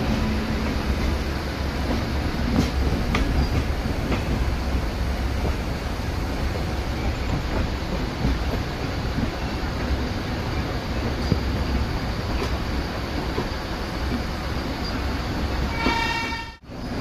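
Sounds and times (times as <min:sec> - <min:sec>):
train rumble: 0:00.0 - 0:17.0
wheels clicking over rail joints: 0:00.0 - 0:17.0.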